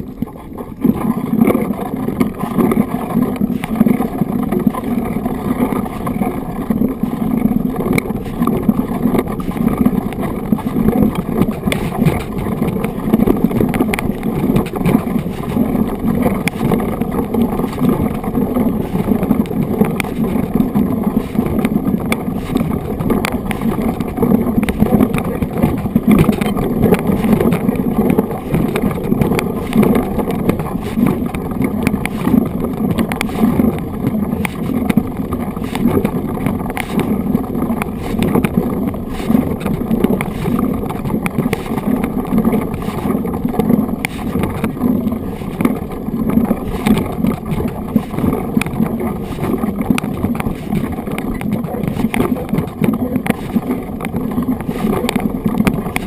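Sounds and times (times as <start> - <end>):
bike tyres rolling on gravel: 0.0 - 56.0
small rattles and knocks: 0.0 - 56.0.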